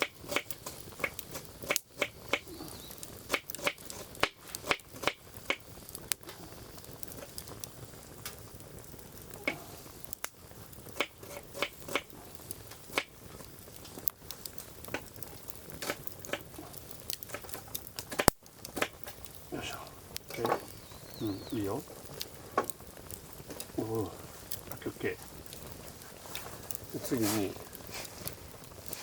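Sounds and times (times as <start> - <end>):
firewood crackling and popping: 0.0 - 29.0
low steady fire hiss: 0.0 - 29.0.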